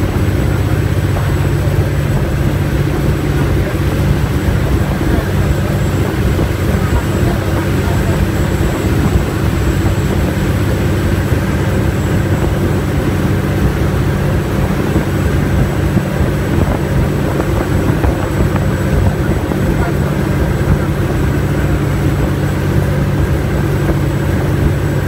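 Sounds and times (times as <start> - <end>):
ferry engines droning: 0.0 - 25.0
water rushing past hull: 0.0 - 25.0.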